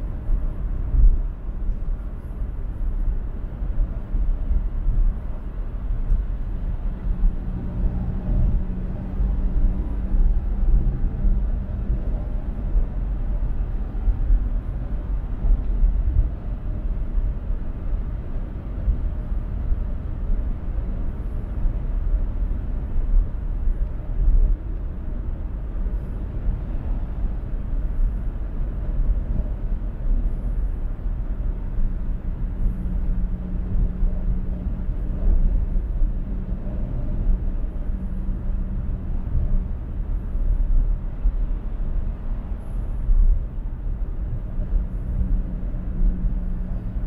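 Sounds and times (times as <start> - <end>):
faint engine hum: 0.0 - 47.0
road and tyre rumble: 0.0 - 47.0.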